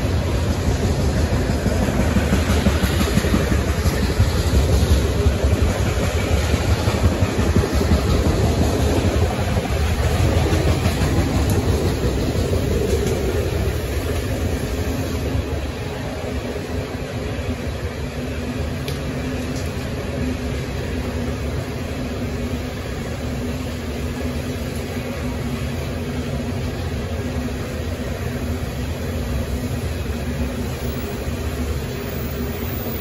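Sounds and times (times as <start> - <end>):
train wheels rolling on rails: 0.0 - 33.0.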